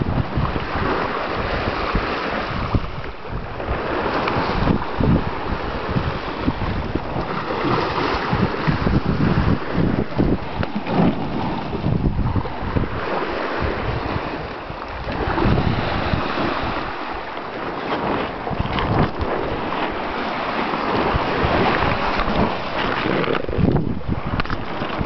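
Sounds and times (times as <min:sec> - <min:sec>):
rush of wind and sea water: 0:00.0 - 0:25.0
wind buffeting microphone: 0:00.0 - 0:25.0.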